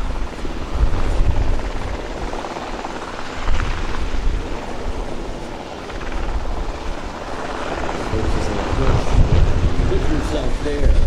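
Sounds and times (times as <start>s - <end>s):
helicopters flying: 0.0s - 11.0s.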